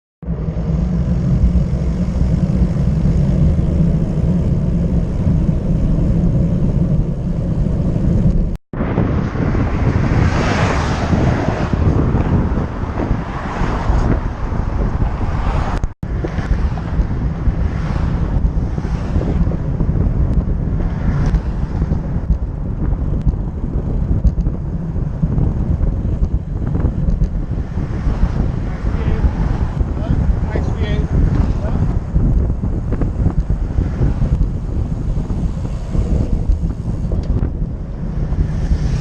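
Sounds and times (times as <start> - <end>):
wind buffeting microphone: 0.2 - 39.0.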